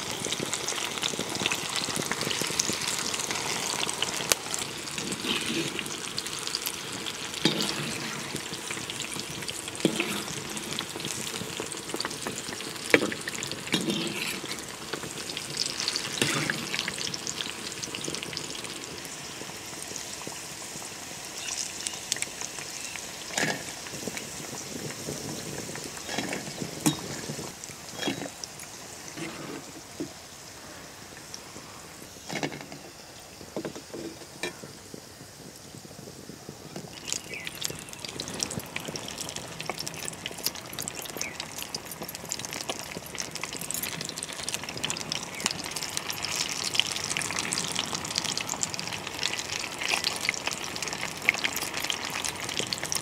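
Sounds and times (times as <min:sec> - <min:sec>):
fritters sizzling in hot oil: 0:00.0 - 0:53.0.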